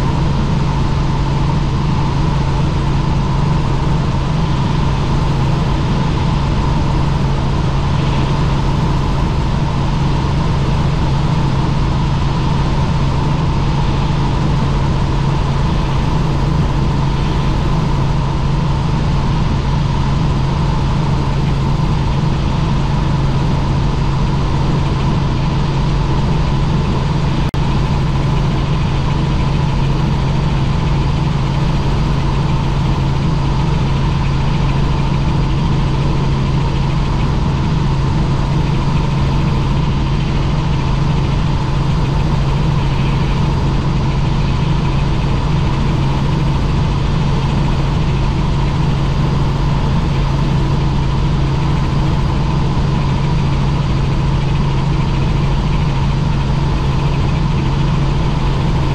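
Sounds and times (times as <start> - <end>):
helicopter drone: 0.0 - 58.9
thin steady whine: 0.0 - 58.9.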